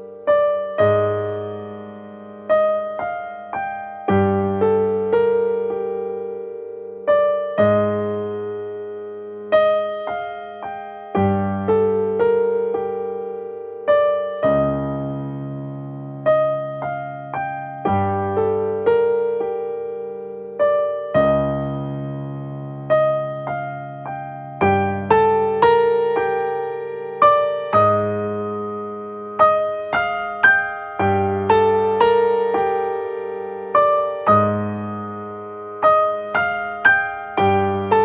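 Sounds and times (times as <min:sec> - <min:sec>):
slow piano music: 0:00.0 - 0:38.0.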